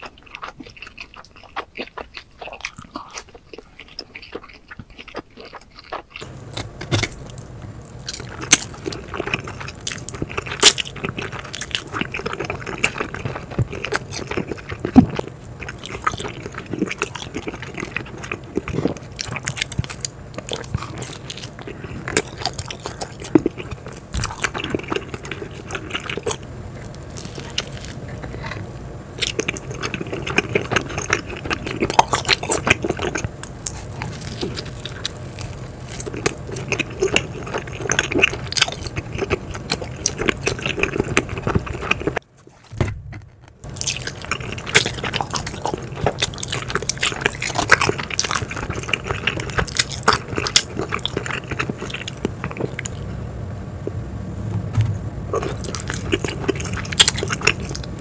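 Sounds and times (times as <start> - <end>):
person chewing pizza: 0.0 - 53.2, 55.3 - 58.0
crust crunching: 2.4 - 53.0
steady low hum: 6.1 - 58.0.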